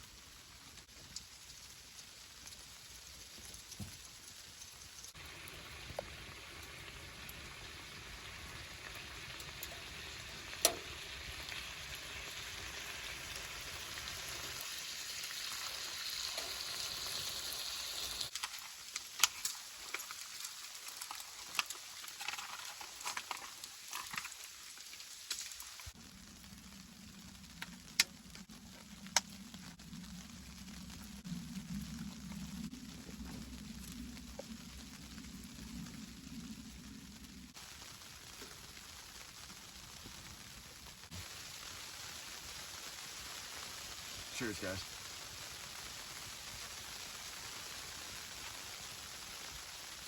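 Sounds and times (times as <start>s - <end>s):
meat sizzling in a frying pan: 0.0s - 31.2s, 33.0s - 50.0s.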